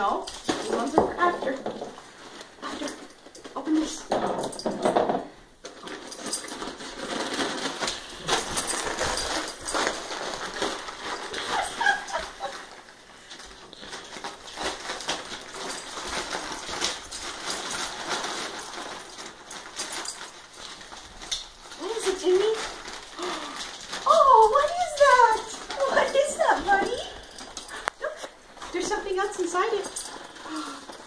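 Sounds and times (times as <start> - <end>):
wrapping paper crinkling and tearing: 0.0 - 4.0, 5.6 - 31.0.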